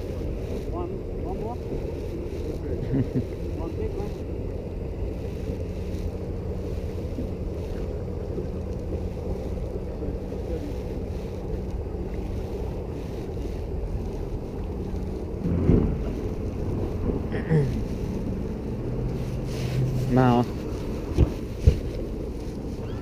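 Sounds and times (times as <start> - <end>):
faint steady hum: 0.0 - 23.0
wind buffeting the microphone: 0.0 - 23.0.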